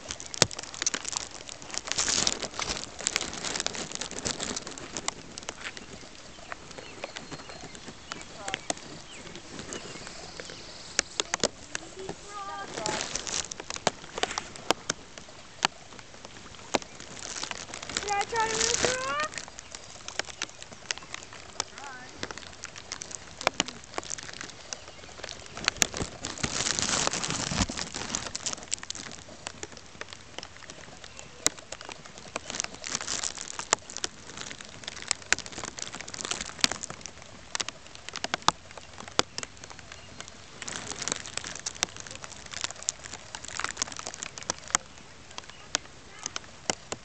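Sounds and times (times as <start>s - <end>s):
rain pattering: 0.0s - 47.0s
raindrops ticking: 0.0s - 47.0s.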